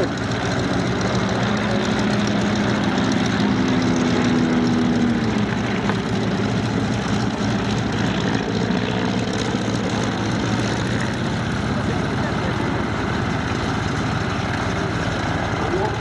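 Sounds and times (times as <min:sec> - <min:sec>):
piston engine idling: 0:00.0 - 0:16.0.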